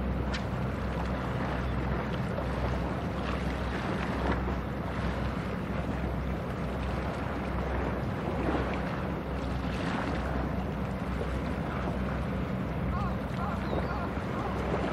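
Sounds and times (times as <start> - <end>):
ship engine drone: 0.0 - 14.9
water noise: 0.0 - 14.9.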